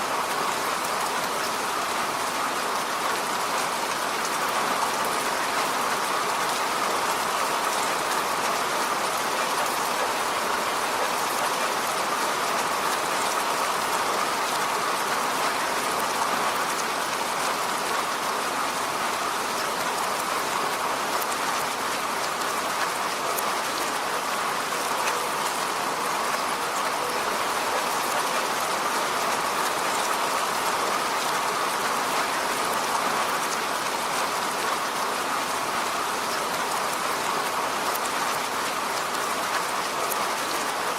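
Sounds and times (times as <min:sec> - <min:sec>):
rain falling on a road: 0:00.0 - 0:40.9.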